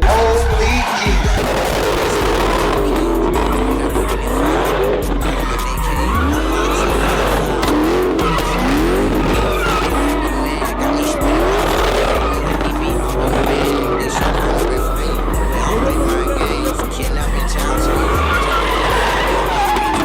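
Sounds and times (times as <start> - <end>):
car engine revving: 0.0 - 20.0
tyres squealing: 0.0 - 20.0.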